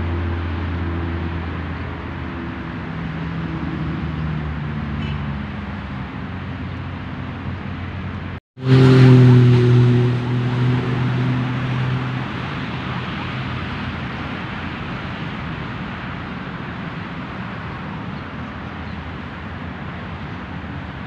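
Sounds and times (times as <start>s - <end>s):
vehicle engines running: 0.0s - 21.0s.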